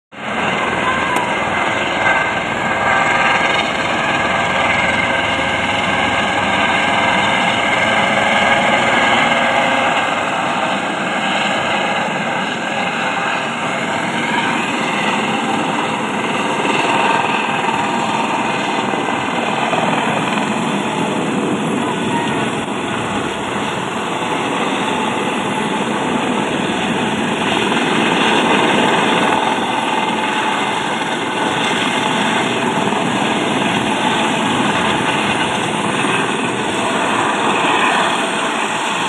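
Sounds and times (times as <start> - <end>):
helicopter engine and rotor: 0.1 - 39.0.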